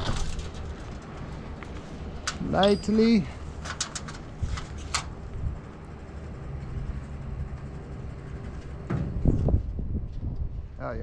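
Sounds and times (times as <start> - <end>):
crane diesel engine running: 0.0 - 9.6.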